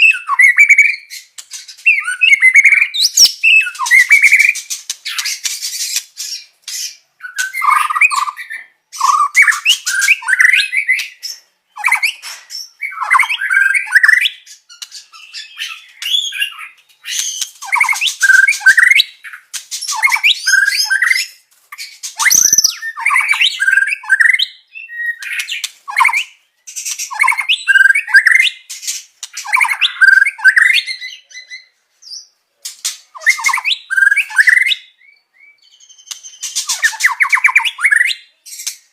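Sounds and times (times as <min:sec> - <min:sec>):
songbird singing varied song: 0:00.0 - 0:38.9.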